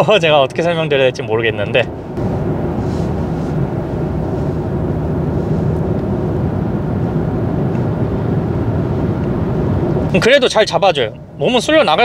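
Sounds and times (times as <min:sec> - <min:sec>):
road and tyre rumble: 0:00.0 - 0:12.0
wind noise: 0:01.7 - 0:12.0.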